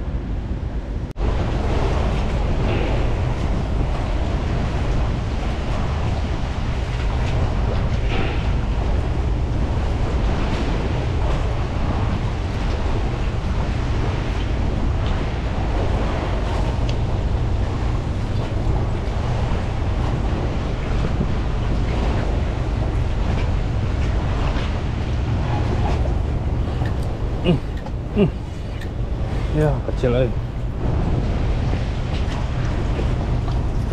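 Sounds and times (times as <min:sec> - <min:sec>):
wind buffeting microphone: 0:00.0 - 0:33.9
water slapping pier pilings: 0:01.0 - 0:33.9.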